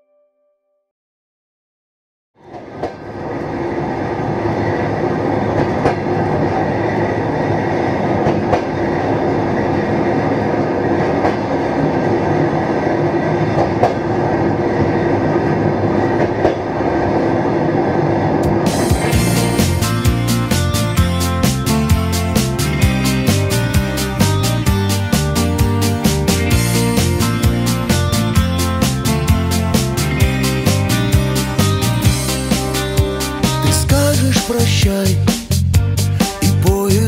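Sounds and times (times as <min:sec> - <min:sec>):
train wheels rumbling on rails: 0:02.4 - 0:35.7.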